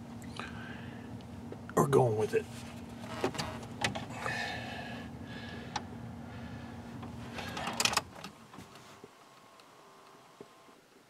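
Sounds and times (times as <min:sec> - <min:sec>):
steady hum: 0:00.0 - 0:10.8.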